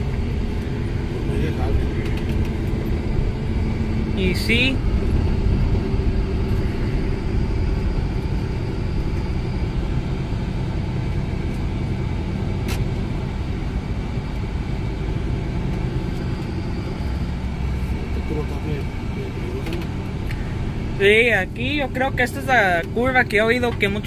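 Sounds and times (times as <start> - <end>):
road noise inside cab: 0.0 - 24.0
truck engine rumble: 0.0 - 24.0.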